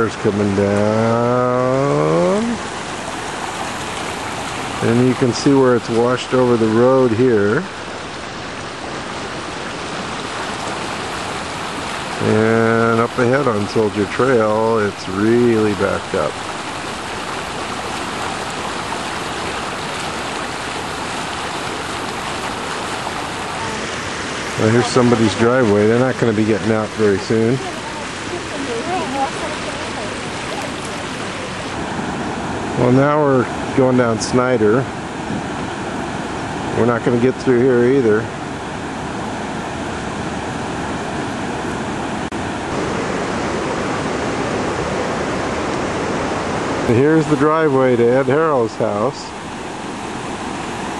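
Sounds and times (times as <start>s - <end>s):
floodwater rushing: 0.0s - 50.9s.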